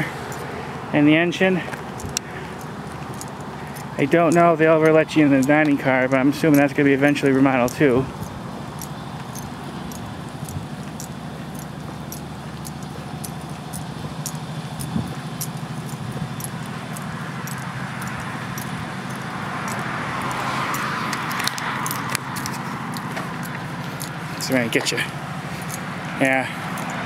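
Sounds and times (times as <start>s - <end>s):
traffic hum: 0.0s - 27.0s
vehicle passing: 0.0s - 27.0s
small scattered clicks: 1.7s - 5.8s, 6.5s - 24.9s, 25.6s - 25.8s, 26.7s - 27.0s.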